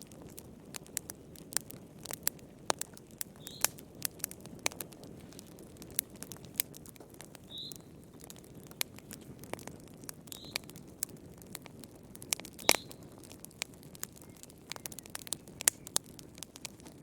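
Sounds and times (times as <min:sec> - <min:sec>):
fire crackling and popping: 0:00.0 - 0:17.0
low rumble of burning: 0:00.0 - 0:17.0.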